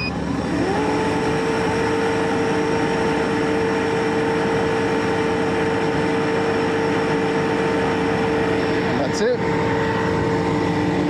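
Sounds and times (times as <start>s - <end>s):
compressor motor humming: 0.0s - 11.0s.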